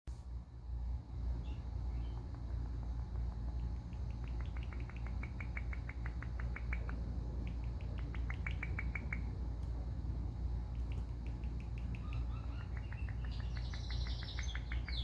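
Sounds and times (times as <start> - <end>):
parakeet chirping rapidly: 1.4 - 9.6, 10.8 - 15.0.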